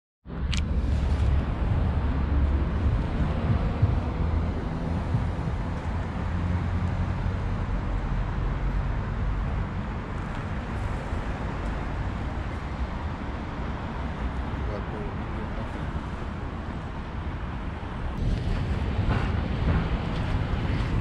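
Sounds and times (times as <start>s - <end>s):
road traffic rumble: 0.3s - 21.0s.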